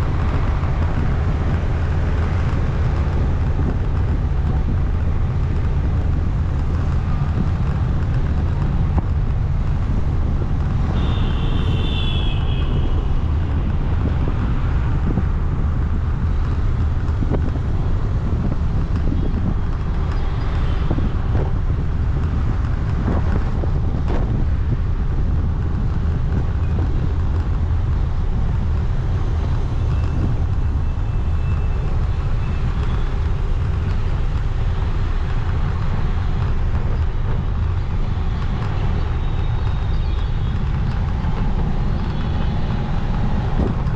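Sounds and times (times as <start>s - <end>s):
wind on microphone: 0.0s - 43.9s.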